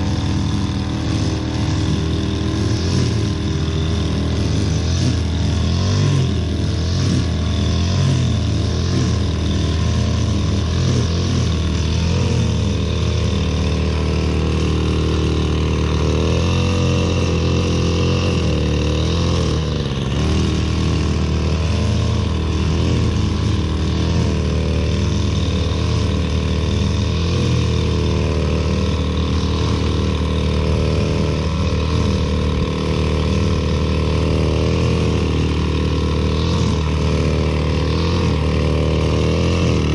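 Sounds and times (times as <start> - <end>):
string trimmer cutting grass: 0.0 - 39.9.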